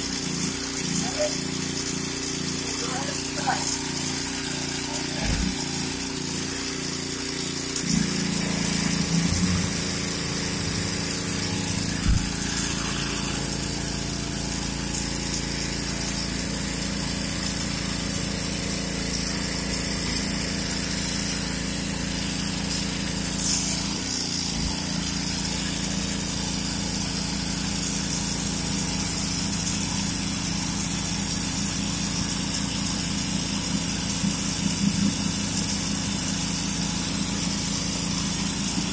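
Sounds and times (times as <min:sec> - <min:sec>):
pressure washer engine running: 0:00.0 - 0:38.9
water jetting into plastic bucket: 0:00.1 - 0:38.9.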